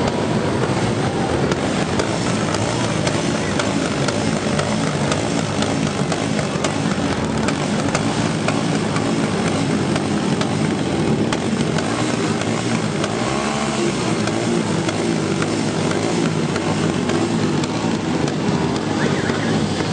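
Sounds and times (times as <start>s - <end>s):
motorcycle engines running: 0.0s - 19.9s.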